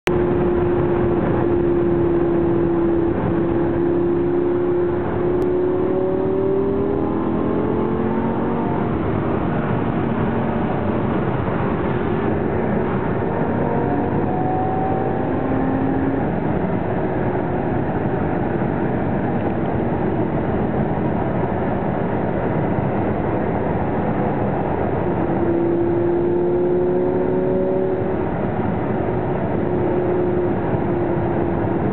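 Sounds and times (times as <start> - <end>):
car engine while driving: 0.0 - 31.9
road and wind noise: 0.0 - 31.9.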